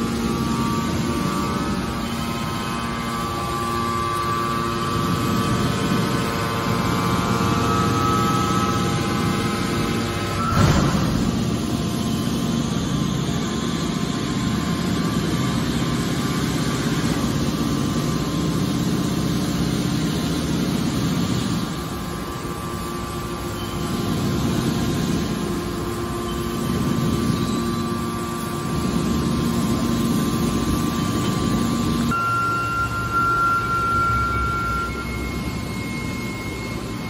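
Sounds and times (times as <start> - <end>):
hydraulic baler hum: 0.0 - 37.0.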